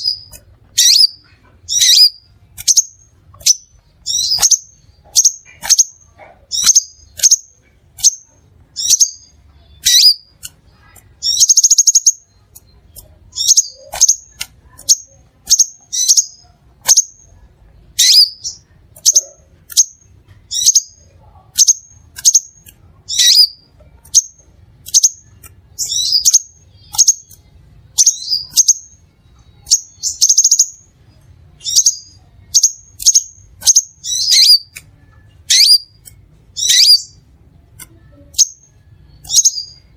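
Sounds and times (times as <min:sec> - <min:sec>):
bird buzzy trill: 0:00.0 - 0:17.3, 0:18.0 - 0:31.0, 0:31.6 - 0:39.9.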